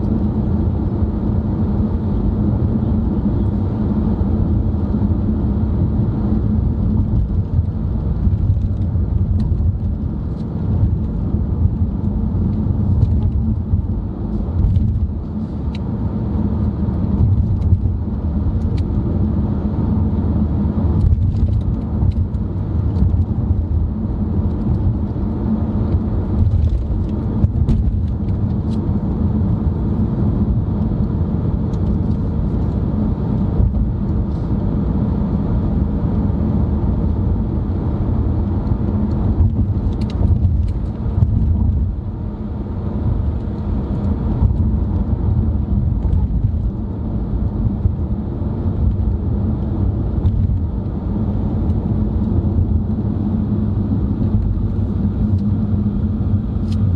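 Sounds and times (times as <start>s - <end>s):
car engine and tyre road noise: 0.0s - 56.9s.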